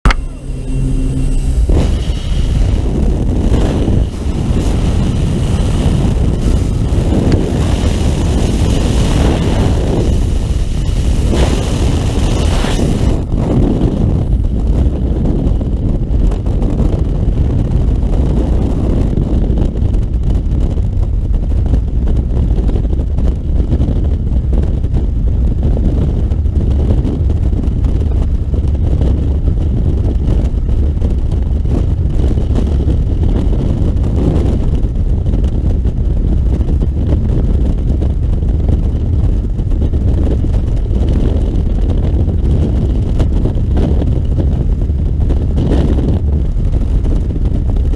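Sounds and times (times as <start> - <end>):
freefall wind buffeting microphone: 0.0 - 47.9.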